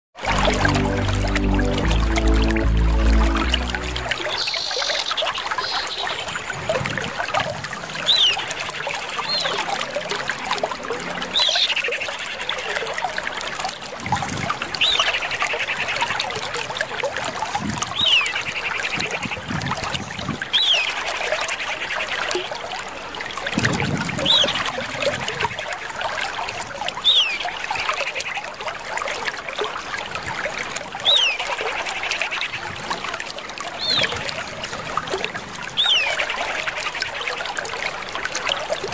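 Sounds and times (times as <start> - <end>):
trickling water: 0.2 - 38.9.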